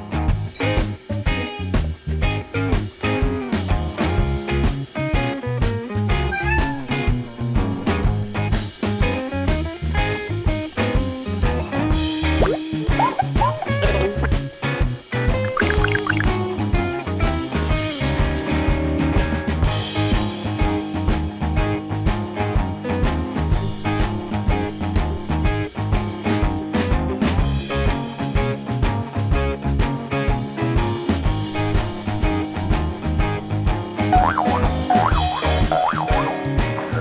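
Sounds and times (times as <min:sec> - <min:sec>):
upbeat guitar music: 0:00.0 - 0:37.0.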